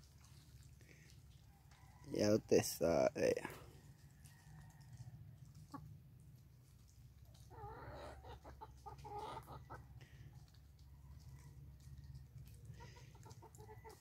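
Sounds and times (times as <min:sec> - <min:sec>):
chickens clucking: 0:01.1 - 0:14.0.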